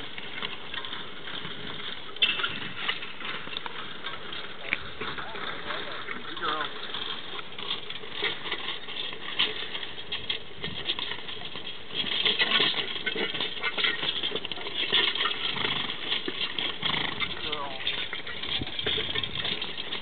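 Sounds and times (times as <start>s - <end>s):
harness and plow working soil: 0.0s - 20.0s
horse hooves: 0.0s - 20.0s.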